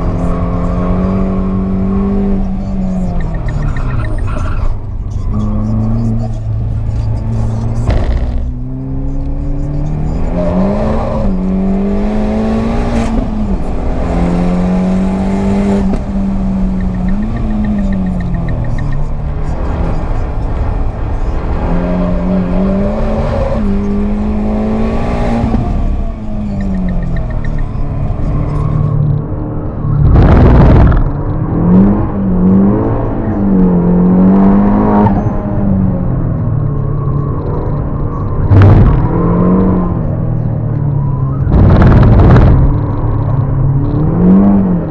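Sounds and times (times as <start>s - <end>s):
turbocharged car engine under load: 0.0s - 44.9s.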